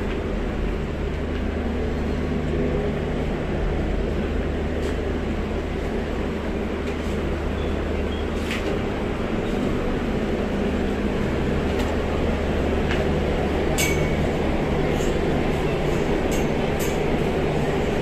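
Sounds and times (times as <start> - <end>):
ferry engine drone: 0.0 - 18.0.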